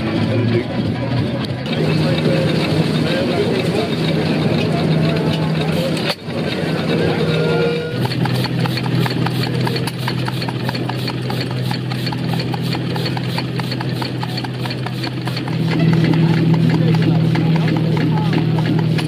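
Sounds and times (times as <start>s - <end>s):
rapid mechanical clicking: 0.0s - 19.0s
stationary engines humming: 0.0s - 19.0s.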